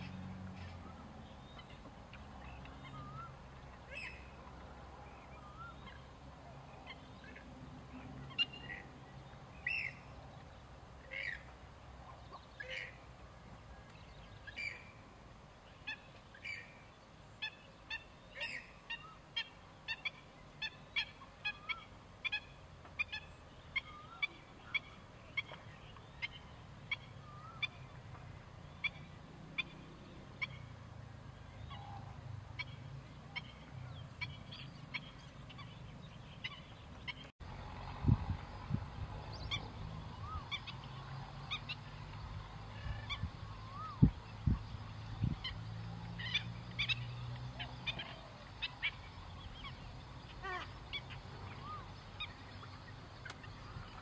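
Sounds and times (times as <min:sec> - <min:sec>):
wading birds calling: 0:00.0 - 0:54.0.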